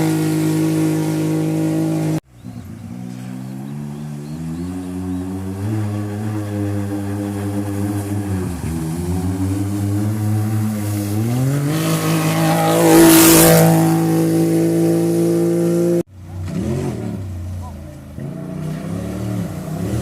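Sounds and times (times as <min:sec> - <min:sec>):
car passing rush: 0:00.0 - 0:20.0
race car engine accelerating: 0:00.0 - 0:20.0.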